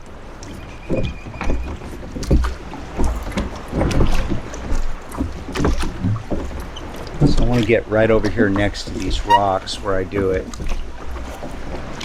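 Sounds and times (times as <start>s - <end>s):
oars splashing and knocking: 0.0s - 12.0s.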